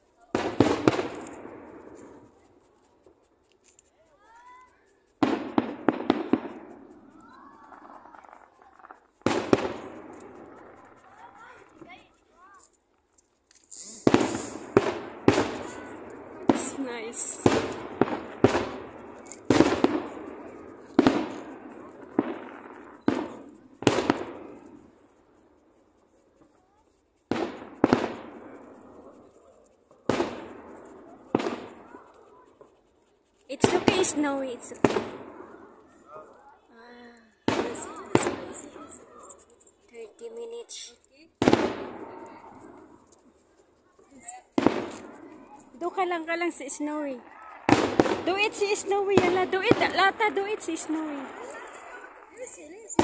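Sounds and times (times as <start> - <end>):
sharp firework cracks: 0.0 - 2.8, 5.2 - 25.8, 26.4 - 32.7, 33.5 - 36.6, 37.4 - 53.0
fireworks bangs: 0.0 - 3.3, 5.2 - 12.7, 13.5 - 36.7, 37.3 - 53.0.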